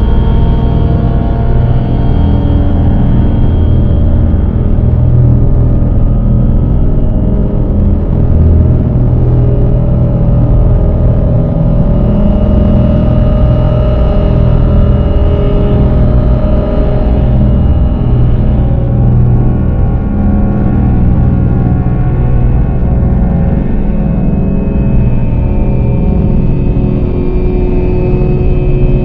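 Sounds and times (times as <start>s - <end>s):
dark ambient drone music: 0.0s - 29.0s.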